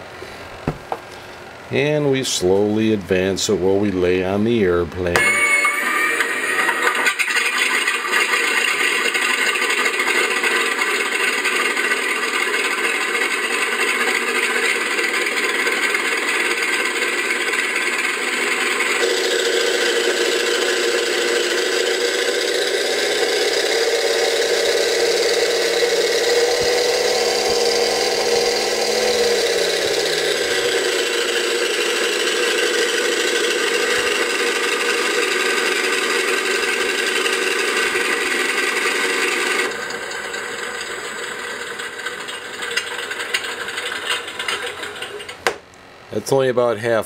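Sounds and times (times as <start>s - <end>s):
simulated engine sound from speakers: 5.2s - 45.4s.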